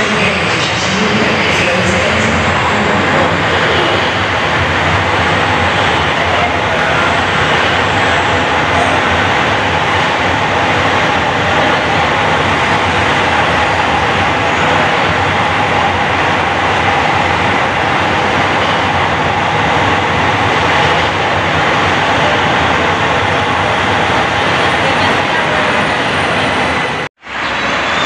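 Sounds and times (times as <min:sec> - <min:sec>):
train running past: 0:00.0 - 0:28.0.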